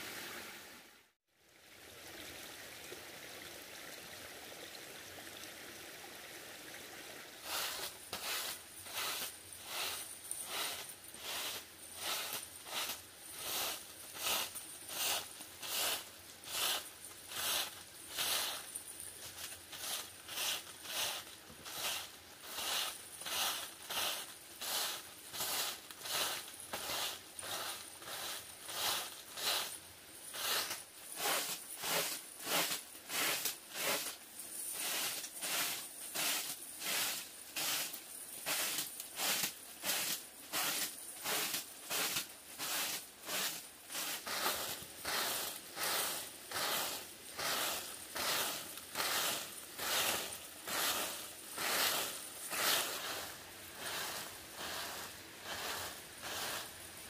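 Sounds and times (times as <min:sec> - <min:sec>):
grass broom sweeping dirt ground: 0:07.4 - 0:57.0.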